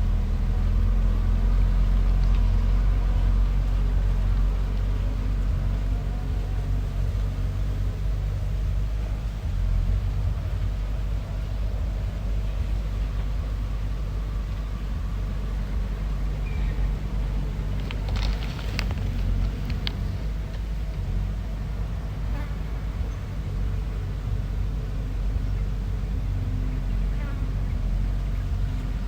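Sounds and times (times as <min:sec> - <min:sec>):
bulldozer diesel engine droning: 0:00.0 - 0:29.0.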